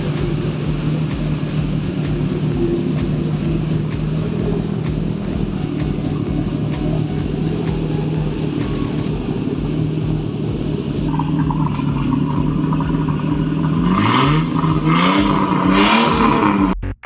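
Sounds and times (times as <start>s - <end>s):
car engine revving: 0.0s - 16.9s.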